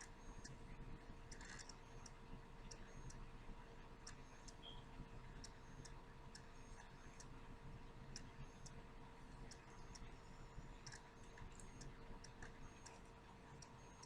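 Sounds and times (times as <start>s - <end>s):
faint steady hum: 0.0s - 14.0s
soft irregular clicks: 0.0s - 14.0s.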